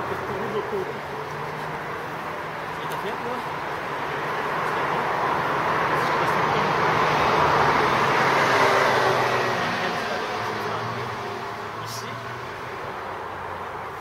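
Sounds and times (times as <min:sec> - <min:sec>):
road vehicle passing: 0:00.0 - 0:14.0.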